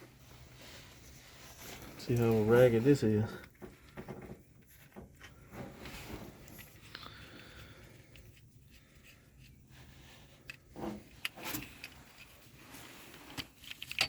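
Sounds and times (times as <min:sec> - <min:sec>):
low steady hum: 0:00.0 - 0:14.0
light clicks and rubs: 0:00.6 - 0:14.0.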